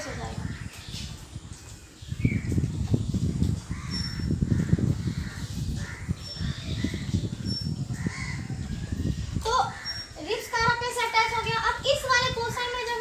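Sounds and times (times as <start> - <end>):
bird calls: 0.0 - 11.0.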